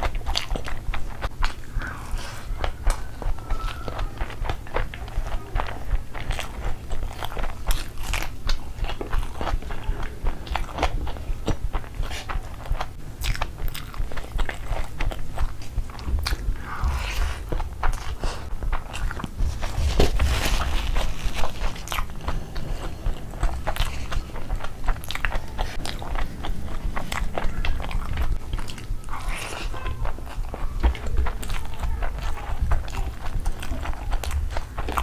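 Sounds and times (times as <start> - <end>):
wet chewing sounds: 0.0 - 35.0.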